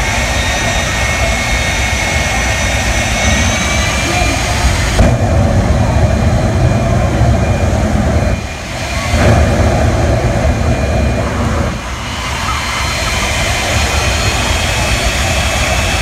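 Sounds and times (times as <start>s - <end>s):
high whine: 0.0s - 16.0s
jet engine roaring: 0.0s - 16.0s.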